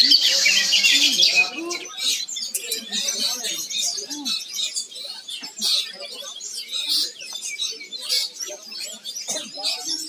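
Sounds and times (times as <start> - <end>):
faint people's voices: 0.0 - 10.0
songbirds chirping and singing: 0.0 - 10.0.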